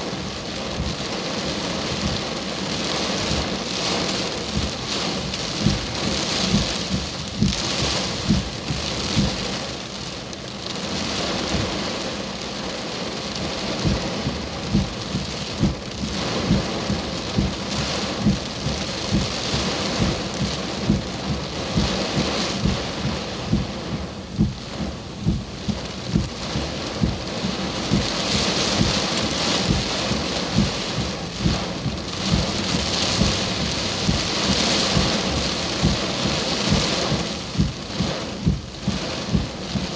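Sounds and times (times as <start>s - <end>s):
dense heavy rain: 0.0s - 39.9s.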